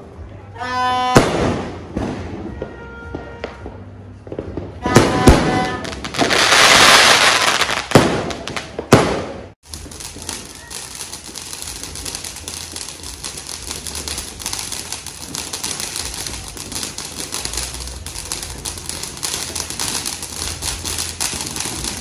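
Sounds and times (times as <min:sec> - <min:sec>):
firework fountain crackling: 0:00.6 - 0:22.0.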